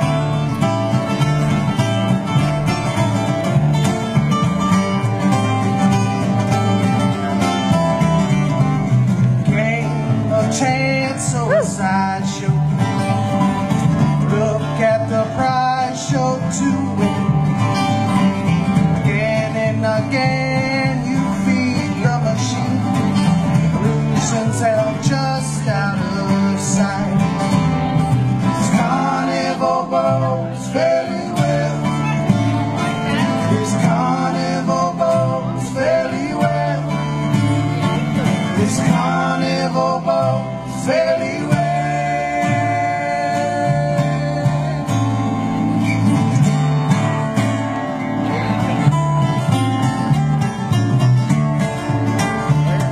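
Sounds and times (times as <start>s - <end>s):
acoustic guitars picking: 0.0s - 52.9s
upright bass plucking: 0.0s - 52.9s.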